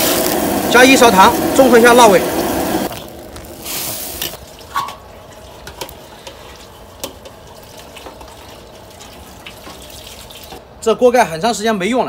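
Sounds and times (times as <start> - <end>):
tap water running and splashing: 0.0 - 10.6.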